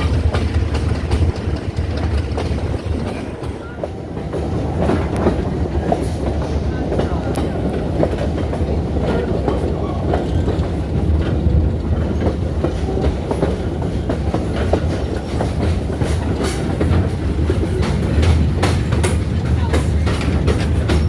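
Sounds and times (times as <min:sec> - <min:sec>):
wheels clicking and knocking: 0:00.0 - 0:03.9, 0:07.4 - 0:21.0
train car rumbling: 0:00.0 - 0:21.0.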